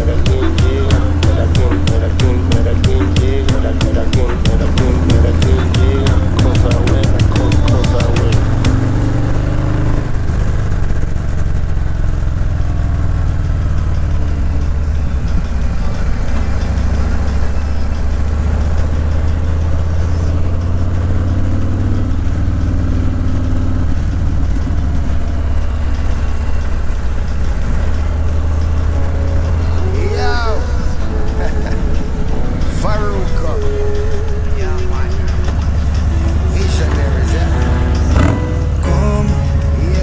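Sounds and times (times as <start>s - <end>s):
motorcycle engine running: 0.0s - 29.8s, 32.8s - 40.0s.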